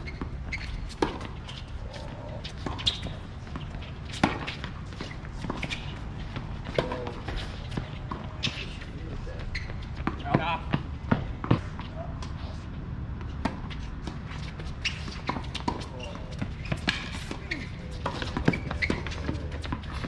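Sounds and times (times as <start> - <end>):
shoes scuffing on court: 0.1 - 12.7, 13.4 - 20.0.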